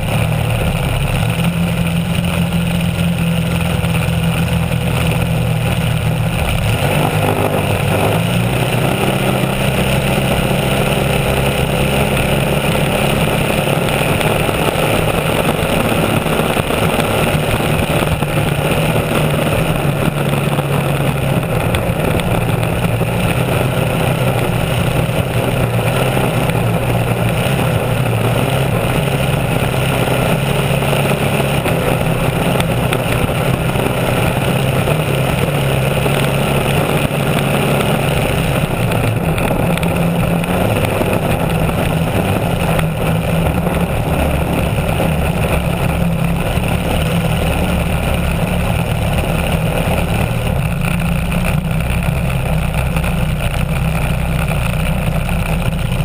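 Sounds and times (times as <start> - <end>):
racing boat engine: 0.0 - 56.0
rush of spray and wind: 0.0 - 56.0.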